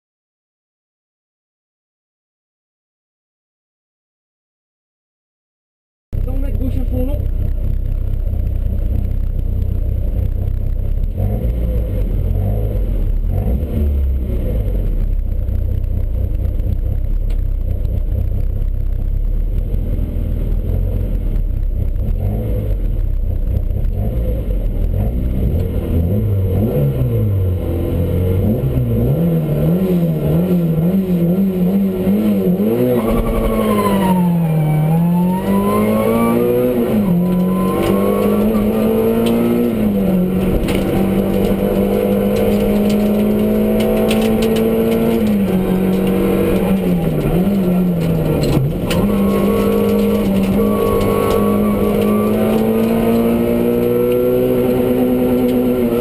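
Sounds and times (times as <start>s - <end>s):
rally car engine: 6.2s - 56.0s.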